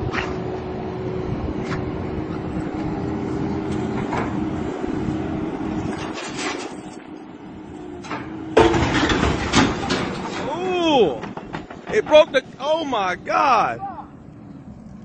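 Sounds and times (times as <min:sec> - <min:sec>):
loader engine running: 0:00.0 - 0:15.0.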